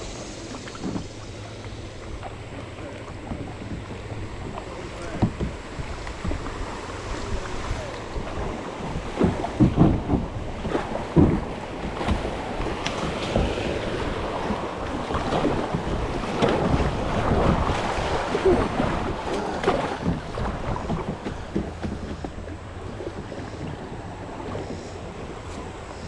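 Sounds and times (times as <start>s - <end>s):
river water rushing and splashing: 0.0s - 26.0s
wind buffeting microphone: 0.0s - 26.0s.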